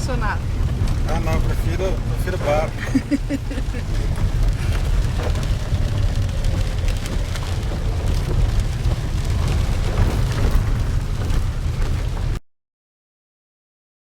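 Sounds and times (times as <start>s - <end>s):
wind and road rumble in car: 0.0s - 12.4s
wind buffeting microphone: 0.0s - 12.4s.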